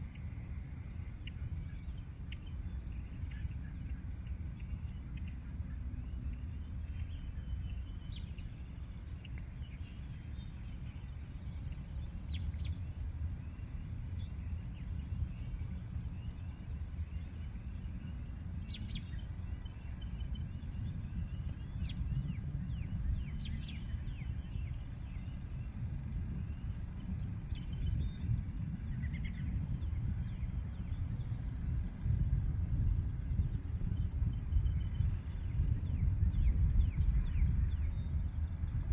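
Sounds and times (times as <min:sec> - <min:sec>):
steady low rumble: 0:00.0 - 0:38.9.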